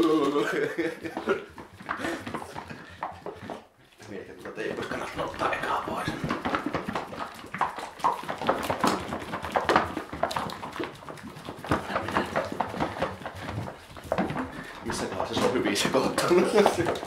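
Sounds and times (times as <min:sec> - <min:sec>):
liquid sloshing in a shaken cup: 0:00.0 - 0:17.0.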